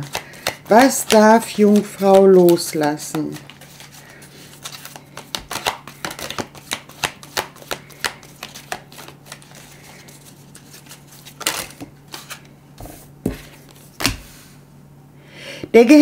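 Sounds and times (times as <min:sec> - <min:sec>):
cards being shuffled: 0:00.0 - 0:14.5.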